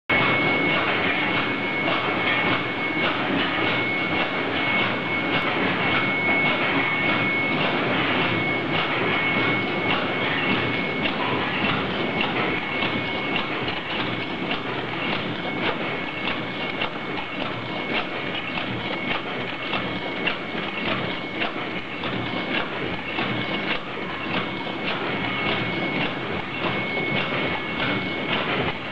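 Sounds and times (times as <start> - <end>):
constant high-pitched tone: 0.1 - 28.9
machine clattering: 0.1 - 28.9
regular machine clicks: 0.1 - 28.9.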